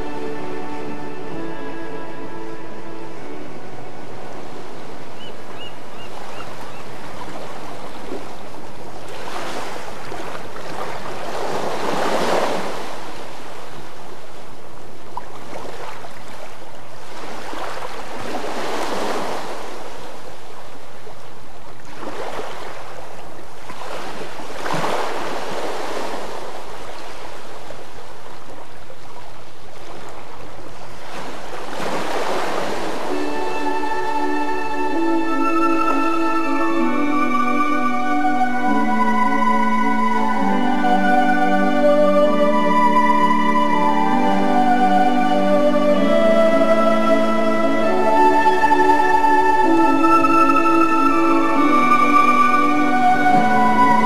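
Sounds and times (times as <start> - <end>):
ocean waves washing onto shore: 0.0 - 54.0.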